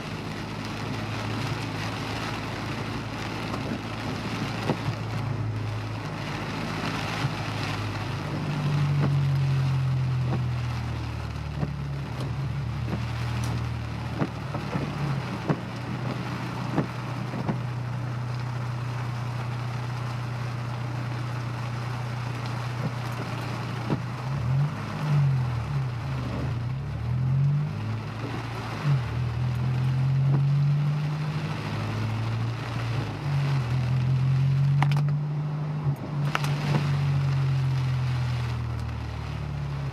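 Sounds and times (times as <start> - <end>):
car engine revving: 0.0 - 39.9
road noise: 0.0 - 39.9.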